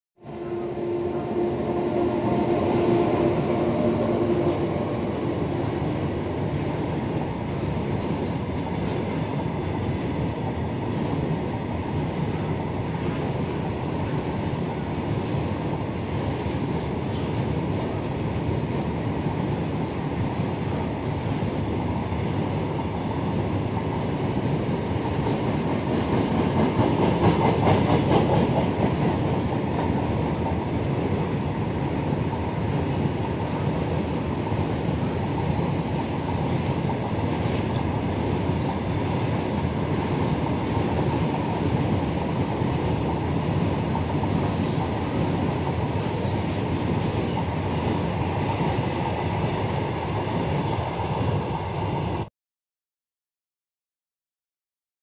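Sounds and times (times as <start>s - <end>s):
freight train wheels rumbling: 0.4s - 52.3s.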